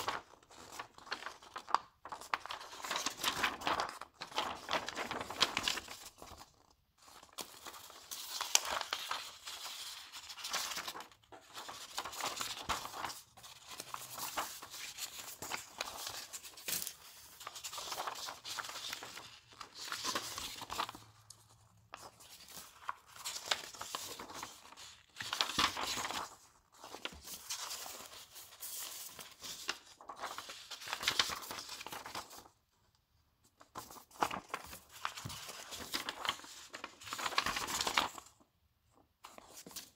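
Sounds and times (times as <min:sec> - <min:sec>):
paper pages rustling: 0:00.0 - 0:32.5, 0:33.5 - 0:38.4, 0:39.2 - 0:39.9.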